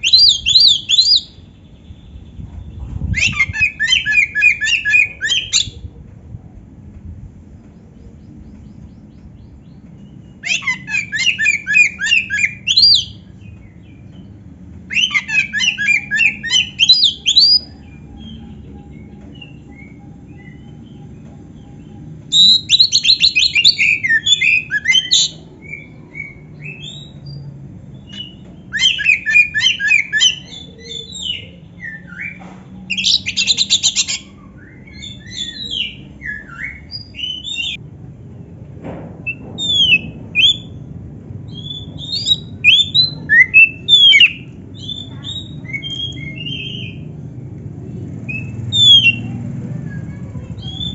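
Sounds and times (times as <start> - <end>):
songbird singing trills: 0.0 - 5.8, 7.6 - 37.8, 41.5 - 47.2, 48.2 - 49.4.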